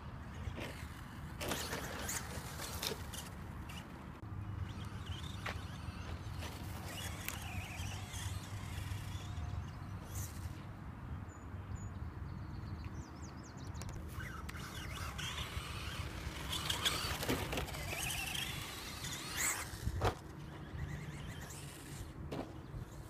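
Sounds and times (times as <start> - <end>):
tyres on dirt: 0.0 - 10.8, 13.8 - 23.0.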